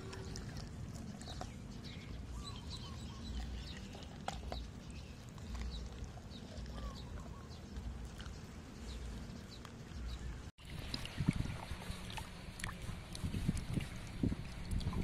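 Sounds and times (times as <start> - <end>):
birds chirping: 0.0 - 12.9
steady low rumble: 0.0 - 15.0.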